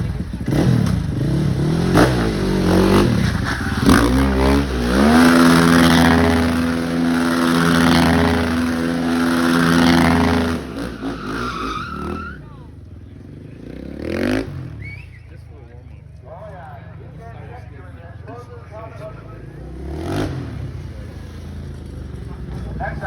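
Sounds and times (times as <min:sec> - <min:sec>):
motorcycle engine revving: 0:00.0 - 0:16.1, 0:16.9 - 0:23.0.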